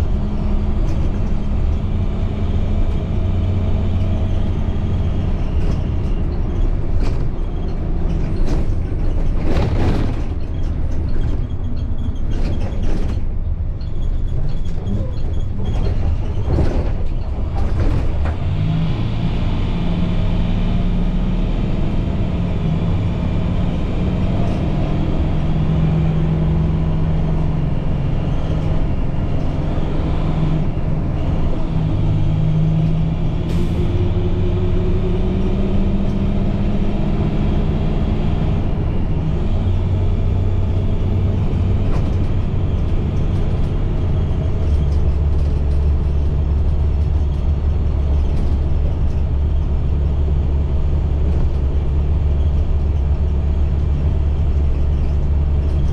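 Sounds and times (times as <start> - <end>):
diesel bus engine running: 0.0 - 55.9
road noise: 0.0 - 55.9.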